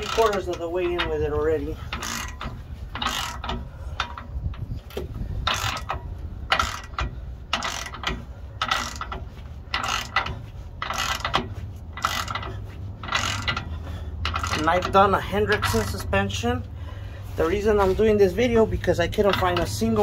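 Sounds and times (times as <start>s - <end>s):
ratchet wrench clicking: 0.0s - 16.4s, 19.1s - 20.0s.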